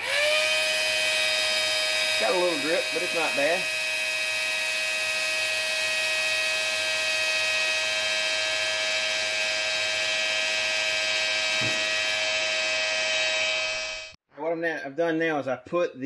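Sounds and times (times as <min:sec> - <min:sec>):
small electric pump whining: 0:00.0 - 0:14.2.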